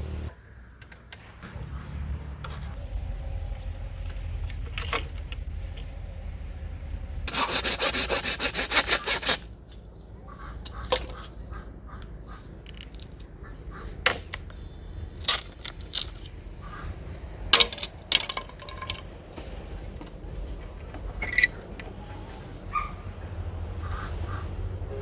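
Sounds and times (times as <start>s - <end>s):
low steady rumble: 0.0s - 0.3s, 1.4s - 8.4s, 9.4s - 25.0s.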